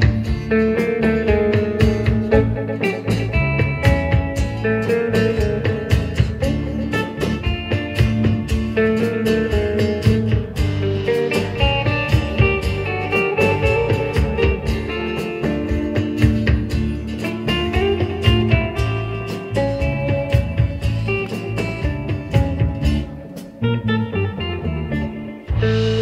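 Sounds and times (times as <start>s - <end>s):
steady drum beat: 0.0s - 23.8s, 25.3s - 26.0s
electric bass: 0.0s - 26.0s
rhythm guitar: 0.0s - 26.0s
twangy electric guitar melody: 0.0s - 26.0s.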